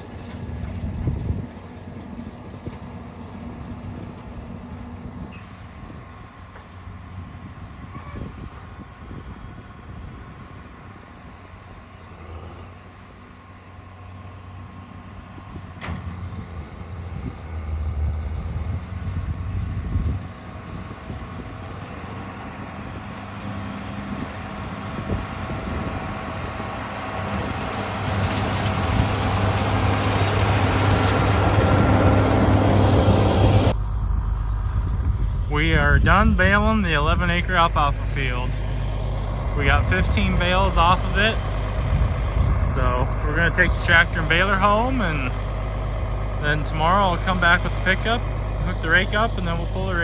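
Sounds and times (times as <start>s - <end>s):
tractor engine under load: 0.0s - 50.0s.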